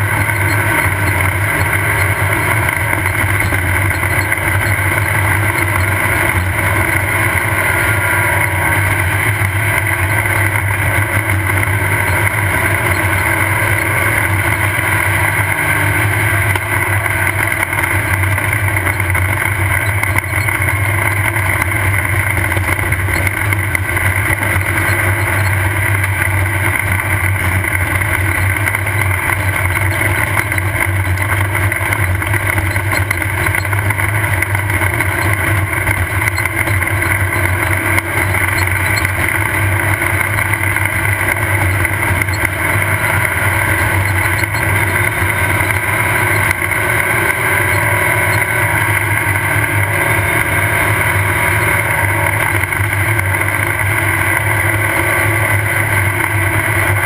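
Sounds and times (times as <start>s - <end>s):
car travelling over terrain: 0.0s - 57.0s
race car engine drone: 0.0s - 57.0s.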